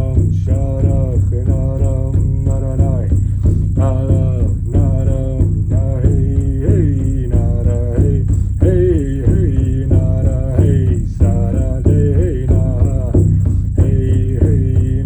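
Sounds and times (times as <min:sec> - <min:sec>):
person singing chant-like melody: 0:00.0 - 0:15.0
steady low drone: 0:00.0 - 0:15.0.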